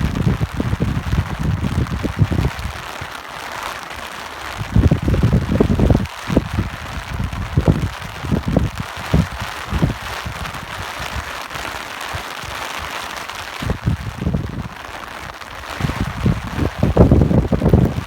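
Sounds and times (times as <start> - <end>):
rain hissing: 0.0 - 18.0
wind gusts on microphone: 0.0 - 18.0.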